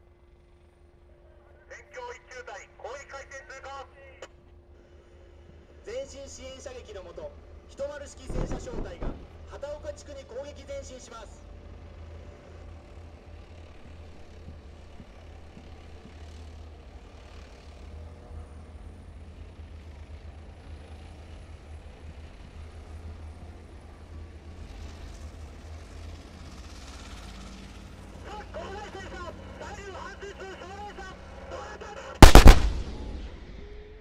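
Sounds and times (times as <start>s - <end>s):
distant tank engine rumble: 0.0s - 34.0s.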